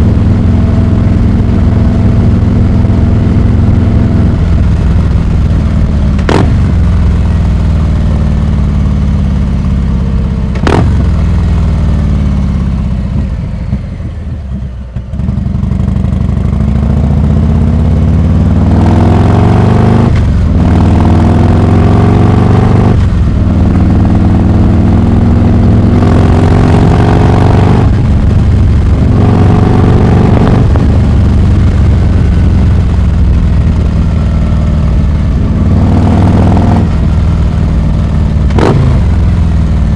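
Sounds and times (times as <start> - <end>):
motorcycle accelerating through gears: 0.0 - 39.9
motorcycle engine: 0.0 - 39.9.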